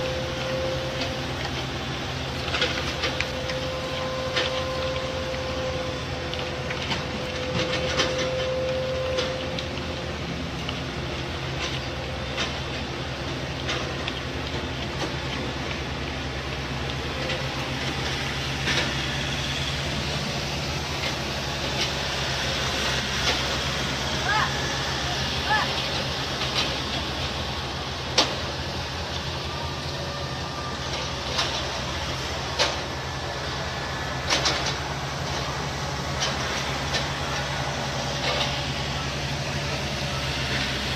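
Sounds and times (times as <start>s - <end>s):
diesel machinery running: 0.0s - 40.9s.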